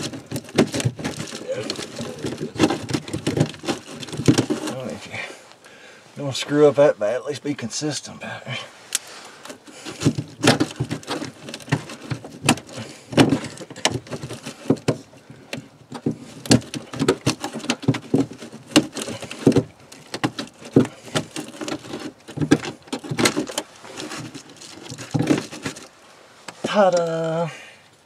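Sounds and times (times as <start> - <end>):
crackling and scraping of insulation: 0.0 - 27.8.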